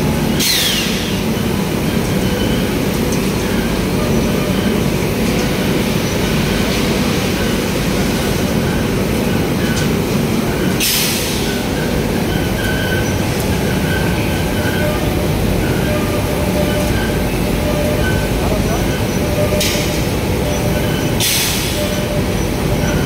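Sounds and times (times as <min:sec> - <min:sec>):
industrial machinery rumble: 0:00.0 - 0:23.0.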